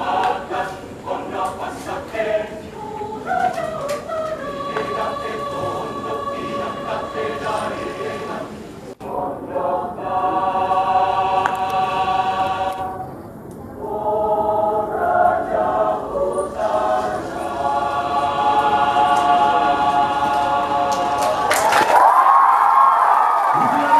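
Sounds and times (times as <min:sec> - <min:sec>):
mixed choir singing: 0:00.0 - 0:23.9.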